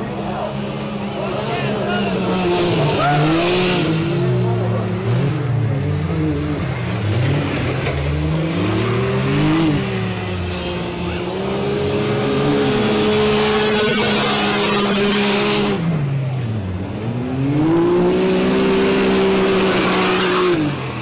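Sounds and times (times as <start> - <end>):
engines revving: 0.0 - 21.0.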